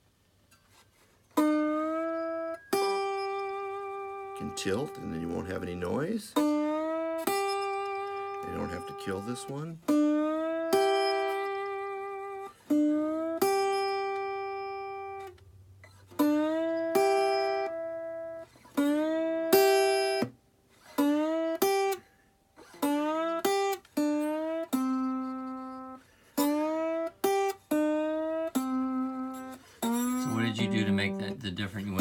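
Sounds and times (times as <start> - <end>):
slide guitar notes: 1.4 - 32.0.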